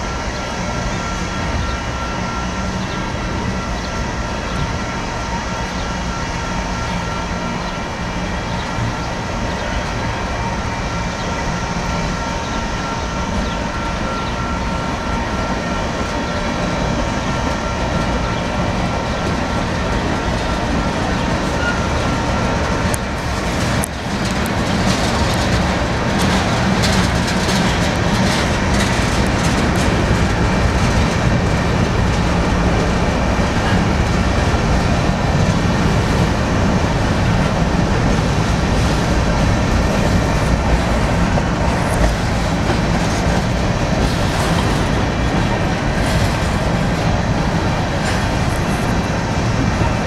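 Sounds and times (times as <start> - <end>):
freight train cars rumbling past: 0.0 - 50.0
wheels clacking over rail joints: 0.4 - 50.0.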